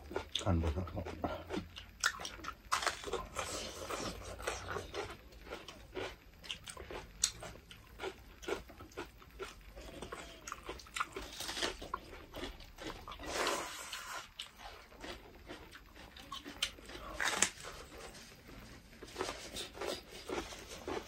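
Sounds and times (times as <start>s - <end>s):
chewing food: 0.0s - 21.0s.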